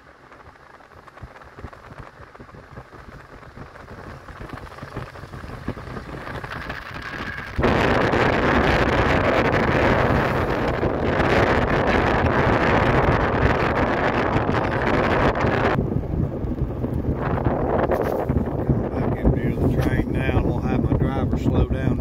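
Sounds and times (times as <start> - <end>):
car road noise: 0.0 - 22.0
wind buffeting microphone: 0.0 - 22.0.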